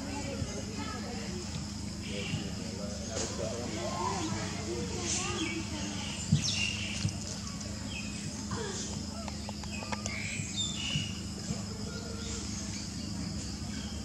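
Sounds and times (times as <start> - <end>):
faint low hum: 0.0 - 14.0
insect drone: 0.0 - 14.0.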